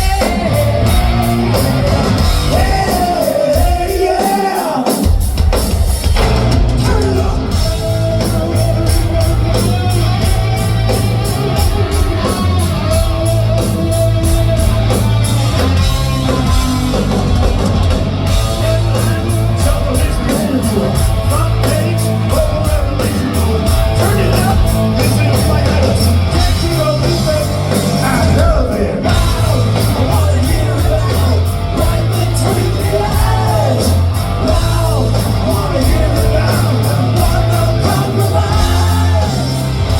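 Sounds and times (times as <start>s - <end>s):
heavy bass: 0.0s - 3.2s, 6.0s - 39.9s
live heavy rock band: 0.0s - 39.9s
steady drum beat: 0.0s - 39.9s.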